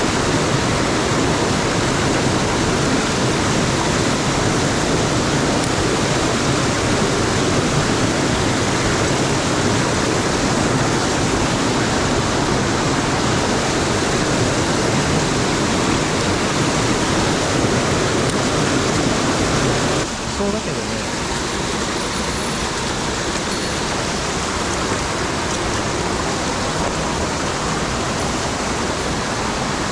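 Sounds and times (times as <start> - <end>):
stream water rushing over rocks: 0.0 - 29.9.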